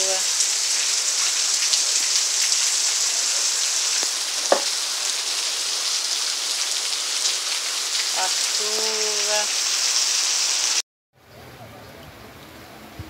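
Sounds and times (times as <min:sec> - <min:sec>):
heavy rain falling: 0:00.0 - 0:10.8.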